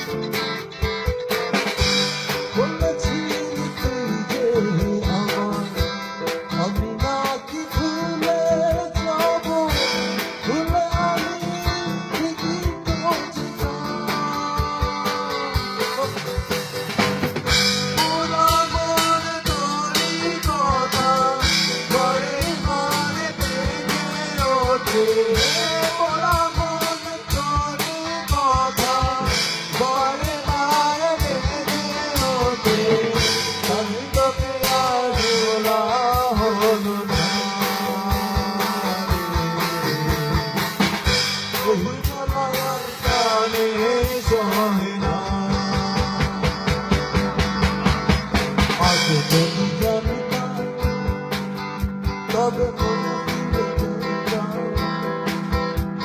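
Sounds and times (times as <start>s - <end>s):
bending melodic lead line: 0.0s - 56.0s
drum kit beat: 0.0s - 56.0s
guitar: 0.0s - 56.0s.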